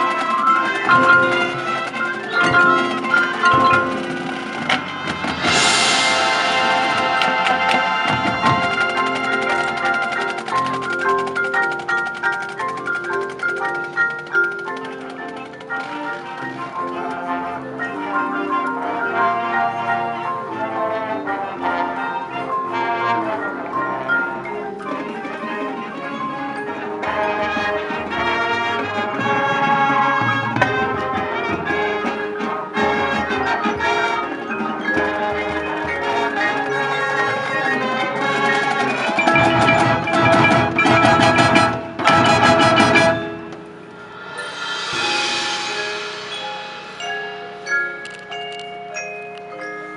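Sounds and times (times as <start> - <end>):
brass band playing chords: 0.0 - 48.0
drums: 0.0 - 49.9
mallet percussion ringing: 0.0 - 49.9.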